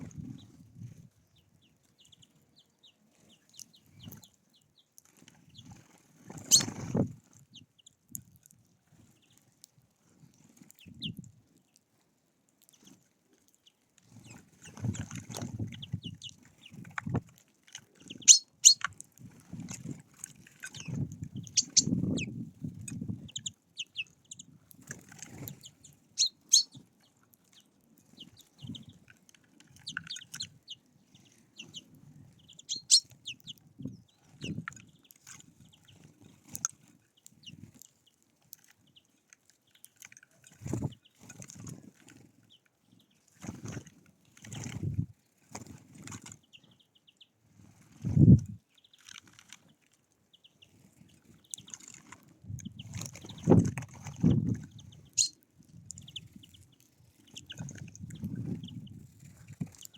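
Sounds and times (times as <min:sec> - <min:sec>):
small songbirds chirping: 0:00.0 - 0:11.9, 0:12.6 - 0:43.6, 0:44.4 - 0:59.9
beaks tapping and pecking: 0:01.3 - 0:11.9, 0:12.5 - 0:47.2, 0:48.7 - 0:59.9.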